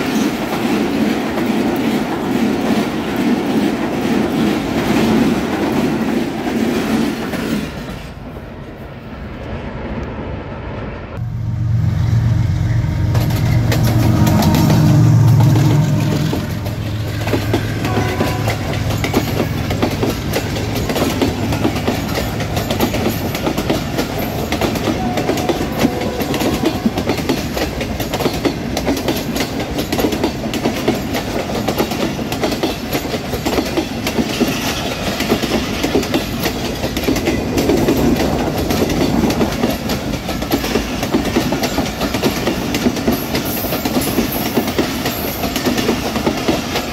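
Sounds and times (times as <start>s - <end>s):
diesel locomotive engine droning: 1.4s - 46.9s.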